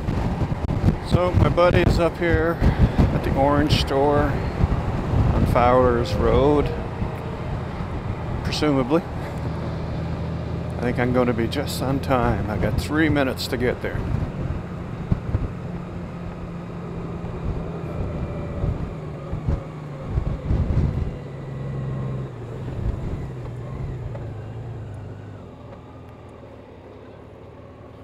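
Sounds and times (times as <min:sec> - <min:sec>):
low wind buffets: 0:00.0 - 0:28.0
motorcycle engine running: 0:00.0 - 0:28.0
wind and road noise: 0:00.0 - 0:28.0.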